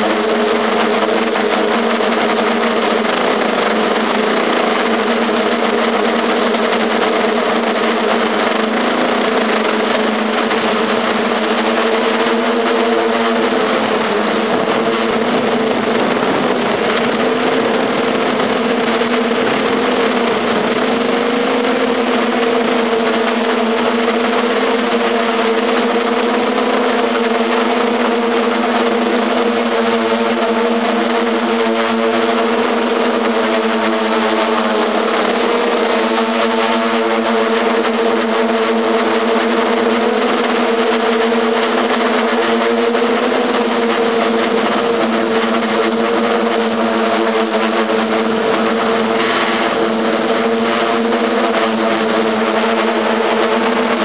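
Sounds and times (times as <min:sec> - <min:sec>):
drone motors humming: 0:00.0 - 0:54.0.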